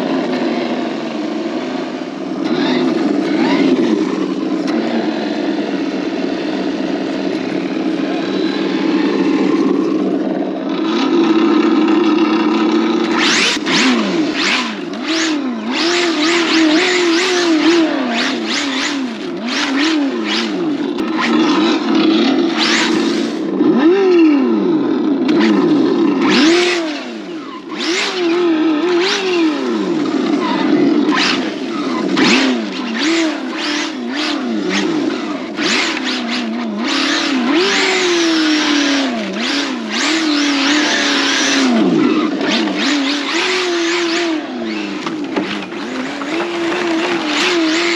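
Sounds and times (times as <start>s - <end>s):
rc car motor whine: 0.0s - 47.9s.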